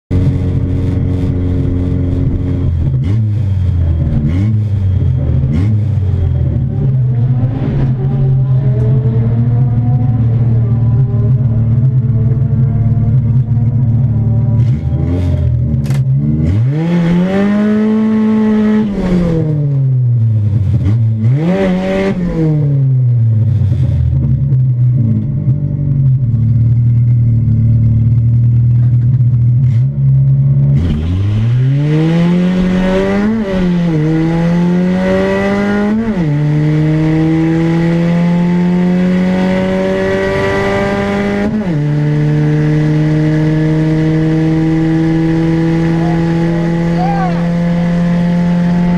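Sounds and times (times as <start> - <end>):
car engine revving and accelerating: 0.1 - 48.9.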